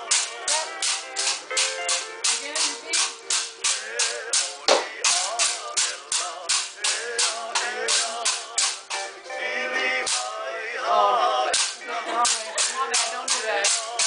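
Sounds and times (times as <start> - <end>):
bamboo sticks rattling: 0.0 - 9.1, 11.5 - 14.0
recorded song with singing: 0.0 - 14.0.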